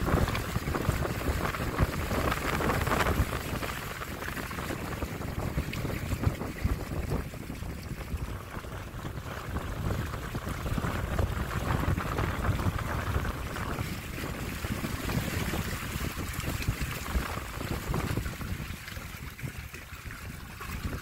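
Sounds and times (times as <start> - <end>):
water rushing along hulls: 0.0 - 21.0
wind buffeting microphone: 0.0 - 21.0.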